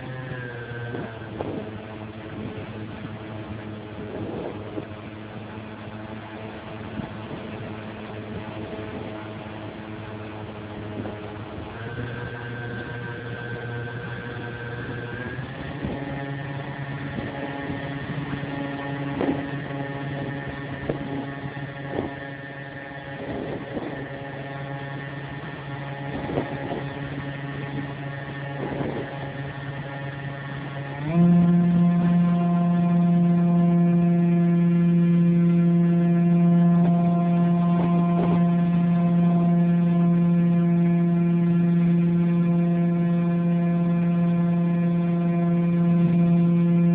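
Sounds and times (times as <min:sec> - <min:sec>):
model airplane motor and propeller: 0:00.0 - 0:46.9.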